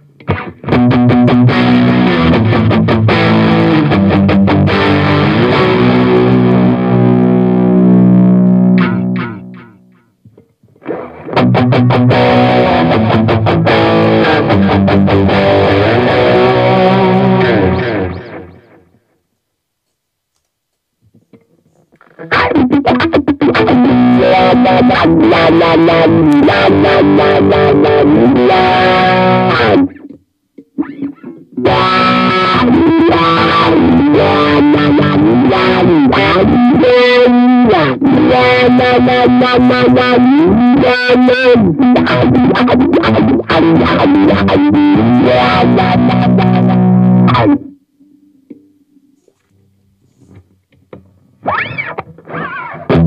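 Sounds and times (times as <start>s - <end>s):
electric guitar riffs and chords: 0.0s - 19.1s, 21.4s - 53.0s.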